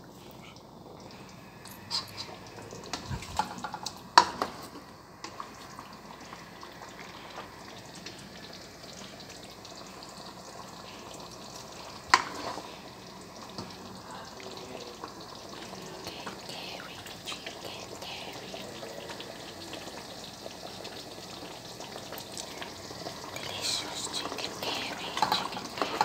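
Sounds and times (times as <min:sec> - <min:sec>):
curry simmering with low sizzle: 0:00.0 - 0:26.0.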